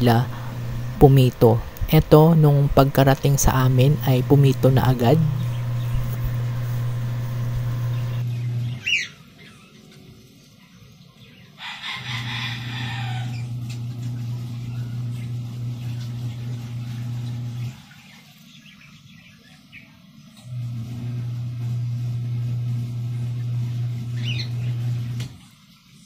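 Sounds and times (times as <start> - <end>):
low mechanical hum: 0.0 - 10.6, 11.6 - 18.9, 20.2 - 25.6.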